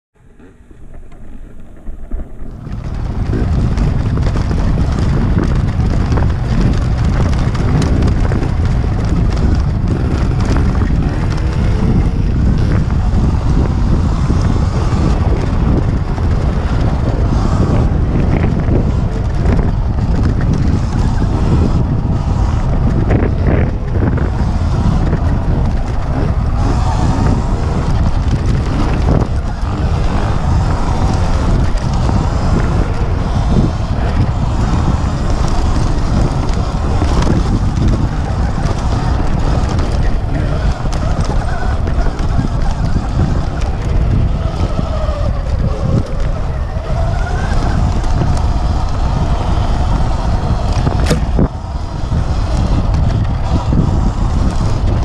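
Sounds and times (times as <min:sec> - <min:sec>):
bike knocks and rattles: 0:00.2 - 0:55.0
wind buffeting microphone: 0:00.2 - 0:55.0.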